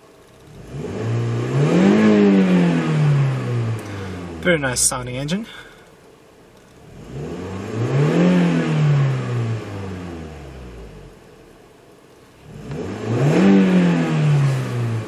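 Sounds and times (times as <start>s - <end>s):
car engine revving: 0.0s - 5.9s, 6.5s - 15.0s.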